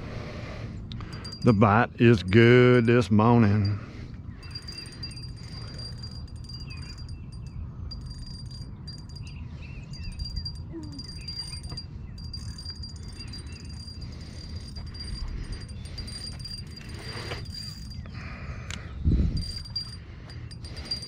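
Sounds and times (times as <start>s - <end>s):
low steady rumble: 0.0s - 21.0s
birds chirping: 0.9s - 21.0s.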